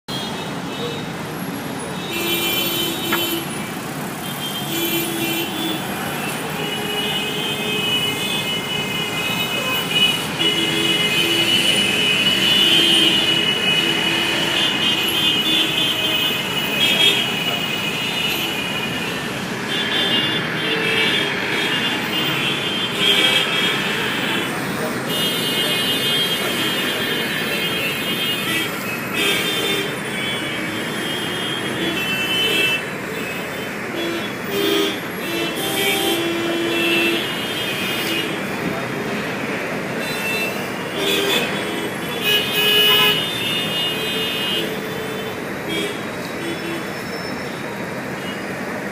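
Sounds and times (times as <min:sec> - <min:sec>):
city road traffic: 0:00.0 - 0:48.9
car horns sounding: 0:02.0 - 0:38.7, 0:39.7 - 0:47.4.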